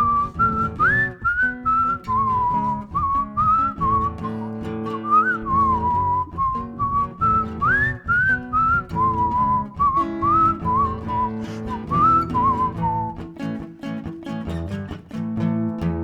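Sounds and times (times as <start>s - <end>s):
whistled melody: 0.0s - 14.7s
acoustic guitar strumming: 0.0s - 16.0s.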